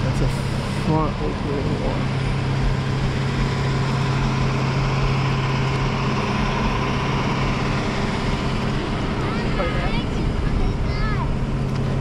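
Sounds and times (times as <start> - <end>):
engine idling: 0.0 - 12.0
outdoor noise: 0.0 - 12.0.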